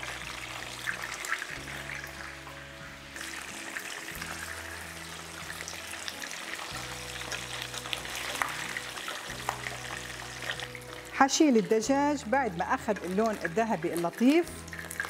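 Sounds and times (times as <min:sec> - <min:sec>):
background music with low notes: 0:00.0 - 0:15.0
chicken sizzling in oil: 0:00.0 - 0:15.0.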